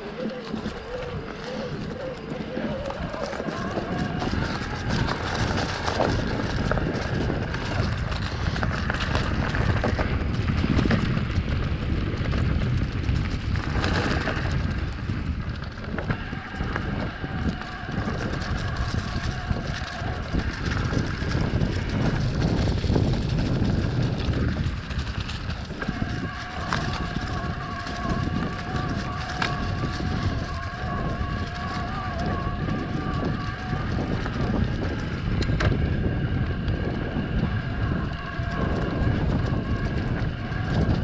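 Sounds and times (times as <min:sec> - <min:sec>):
tyres rumbling on dirt and leaves: 0:00.0 - 0:41.0
wind buffeting microphone: 0:00.0 - 0:41.0.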